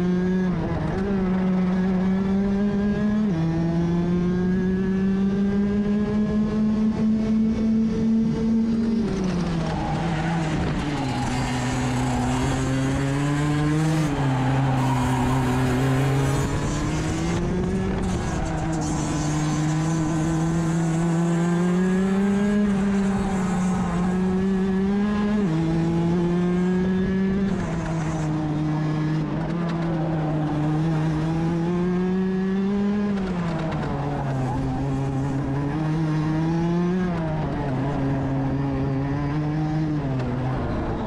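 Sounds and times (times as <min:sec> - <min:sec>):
kart engine racing: 0:00.0 - 0:41.0.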